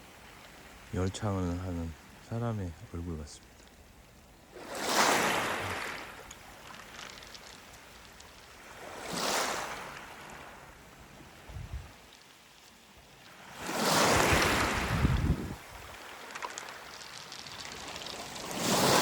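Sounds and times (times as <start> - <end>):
waves washing on stony beach: 0.0 - 19.0.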